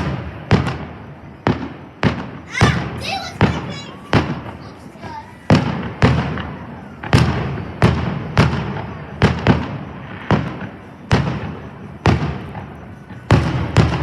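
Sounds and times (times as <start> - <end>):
fireworks bursting with echo: 0.0 - 14.0.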